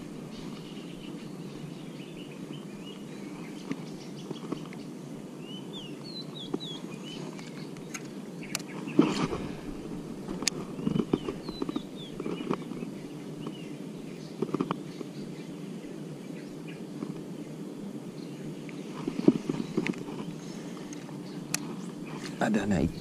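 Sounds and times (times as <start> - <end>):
open-air background noise: 0.0 - 23.0.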